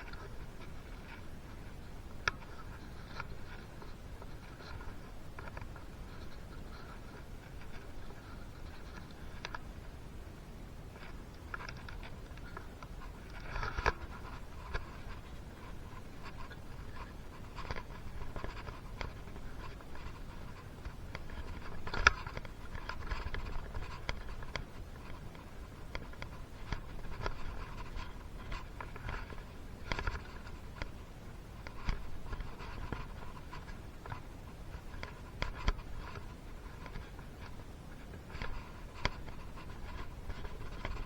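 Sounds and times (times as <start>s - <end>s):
light clicks and taps: 0.0s - 41.0s.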